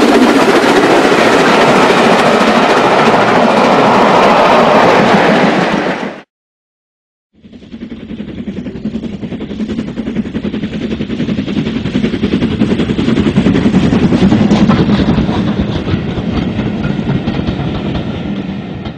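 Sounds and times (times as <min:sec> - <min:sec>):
train rattling past: 0:00.0 - 0:06.3, 0:07.4 - 0:18.9.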